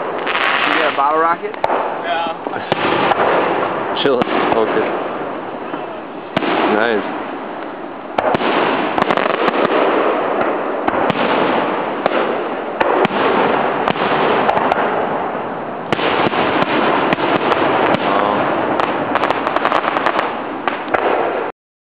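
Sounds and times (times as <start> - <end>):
firework shells cracking: 0.0 - 21.5
steady wash of noise: 0.0 - 21.5.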